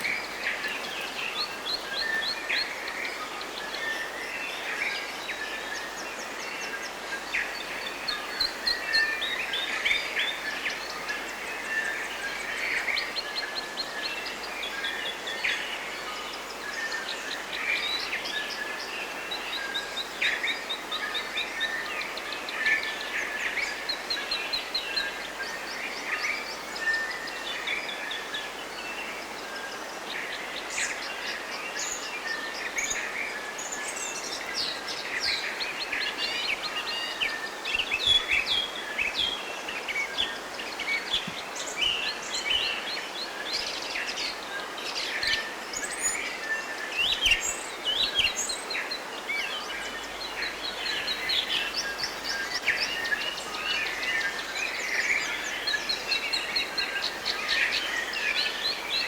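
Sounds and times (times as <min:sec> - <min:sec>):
low background hiss: 0:00.0 - 0:59.0
small birds chirping and trilling: 0:00.0 - 0:59.0.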